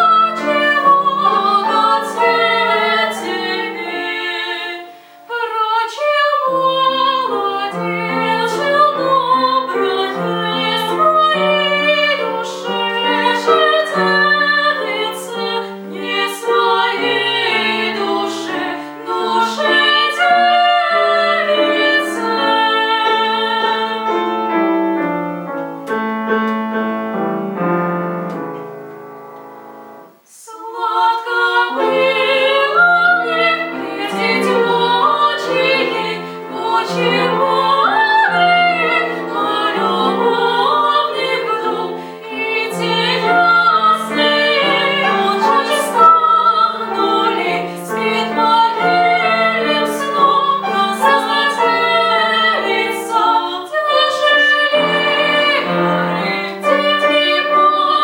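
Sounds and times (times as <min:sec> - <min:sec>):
woman singing classically: 0:00.0 - 0:24.6, 0:30.3 - 0:58.0
piano accompaniment: 0:00.0 - 0:58.0.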